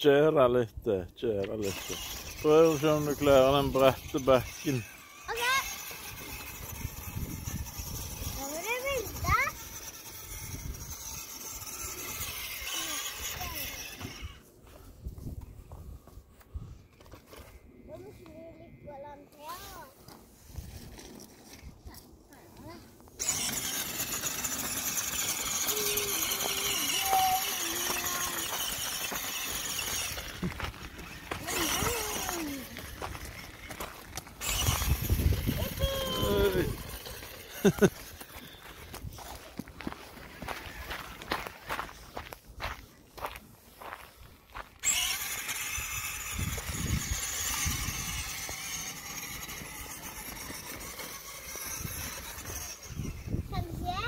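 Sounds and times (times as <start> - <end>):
wheels on gravel: 0.0 - 54.0
toy truck motor whining: 1.4 - 16.0, 16.6 - 42.3, 43.2 - 54.0.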